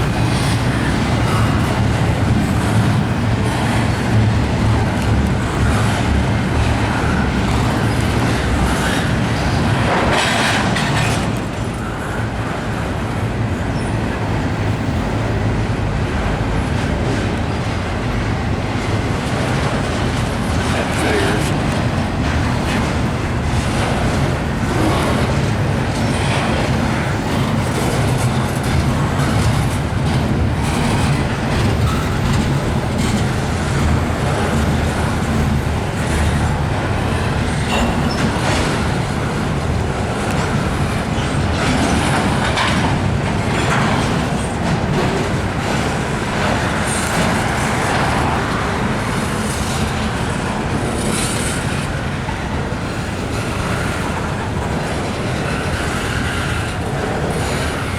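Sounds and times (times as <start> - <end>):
train wheels clacking on rails: 0.0 - 57.9.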